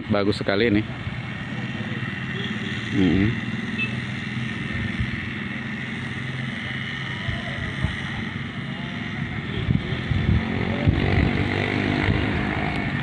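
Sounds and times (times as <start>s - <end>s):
small engine running: 1.0s - 13.0s.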